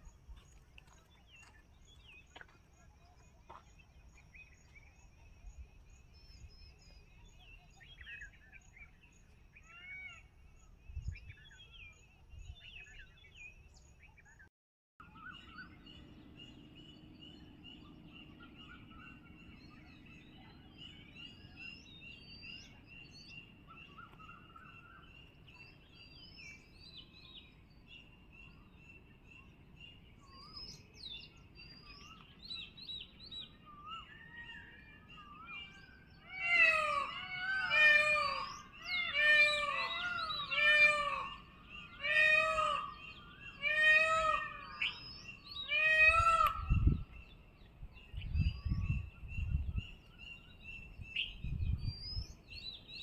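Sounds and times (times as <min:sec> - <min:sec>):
wild birds chirping: 0:00.0 - 0:53.0.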